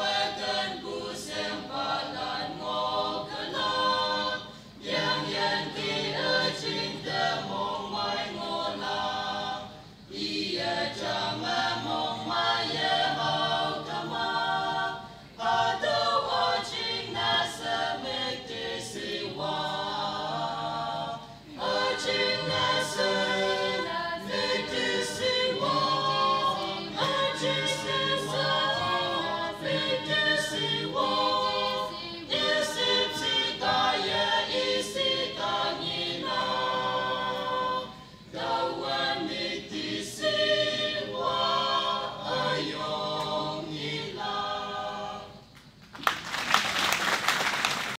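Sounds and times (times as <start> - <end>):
mixed choir singing a cappella: 0.0 - 45.8.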